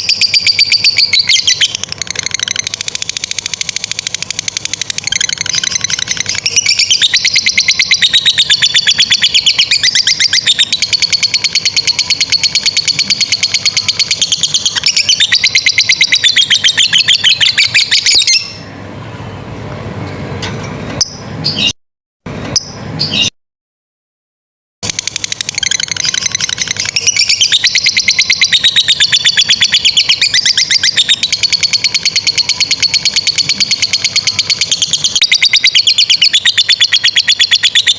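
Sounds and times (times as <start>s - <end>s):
lovebird chattering: 0.0s - 18.6s, 24.8s - 37.9s.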